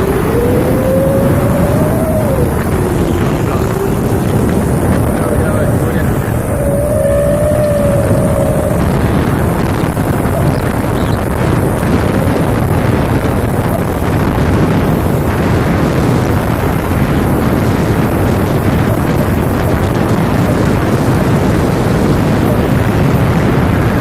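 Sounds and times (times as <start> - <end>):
heavy truck rumbling: 0.0 - 23.8
wind buffeting microphone: 0.0 - 24.0.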